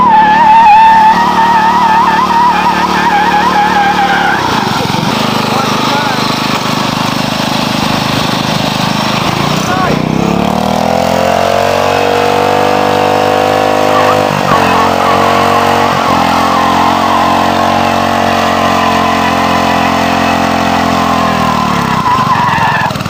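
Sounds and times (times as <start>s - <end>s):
lawn tractor engine revving: 0.0s - 23.0s.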